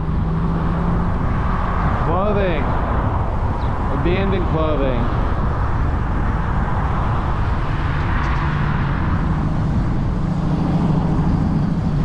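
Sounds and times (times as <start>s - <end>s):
low engine hum: 0.0s - 12.0s
road traffic noise: 0.0s - 12.0s.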